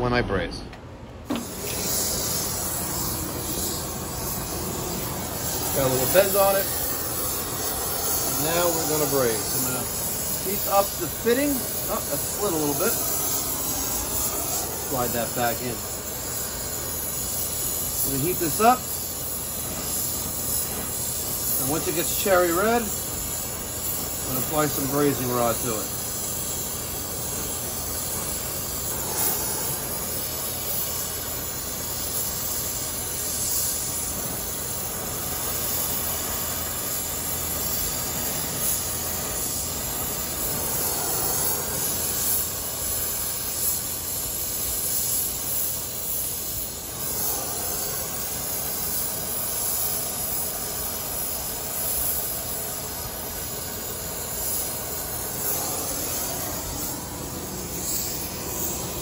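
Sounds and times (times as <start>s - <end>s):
torch flame hissing: 1.2s - 59.0s.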